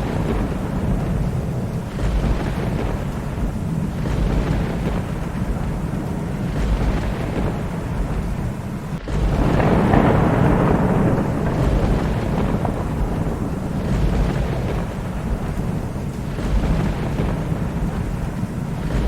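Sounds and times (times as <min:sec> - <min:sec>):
low rolling thunder: 0:00.0 - 0:19.0
steady rain: 0:00.0 - 0:19.0
thunder peal: 0:00.0 - 0:19.0.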